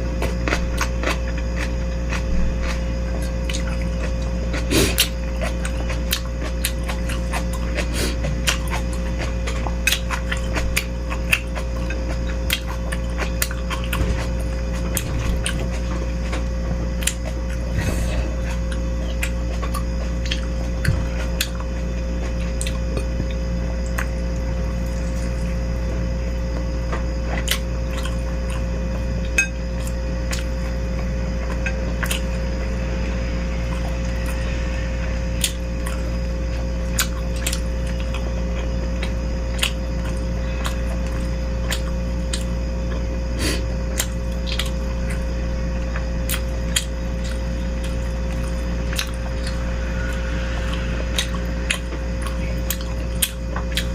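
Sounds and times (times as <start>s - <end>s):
low background hum: 0.0s - 53.9s.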